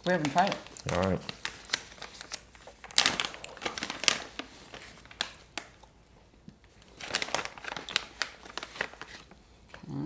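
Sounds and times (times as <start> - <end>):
plastic snack packet crinkling: 0.0 - 9.8.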